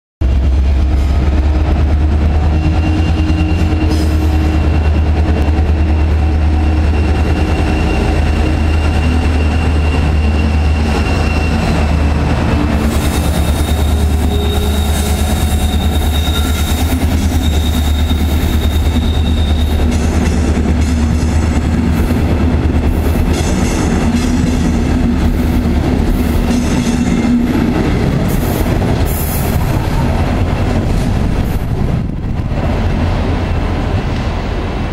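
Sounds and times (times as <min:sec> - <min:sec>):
diesel locomotive engine droning: 0:00.2 - 0:34.9
train wheels clattering on rails: 0:00.3 - 0:34.9.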